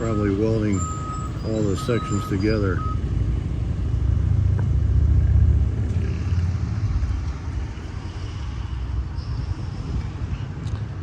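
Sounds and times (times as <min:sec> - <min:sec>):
diesel engines rumbling: 0:00.0 - 0:11.0.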